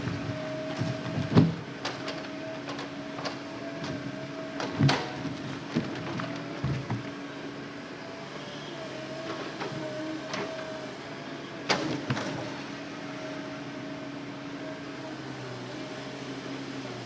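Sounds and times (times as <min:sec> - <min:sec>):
excavator engine running: 0:00.0 - 0:16.3.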